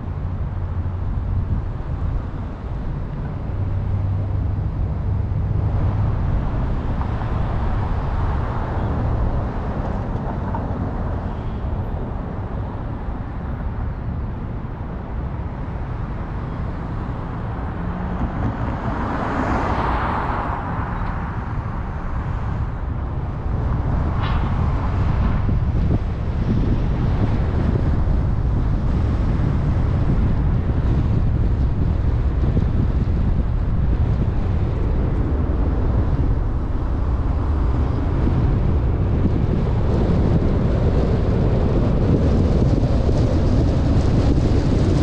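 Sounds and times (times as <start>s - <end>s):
car tyres and engine rumble: 0.0s - 45.0s.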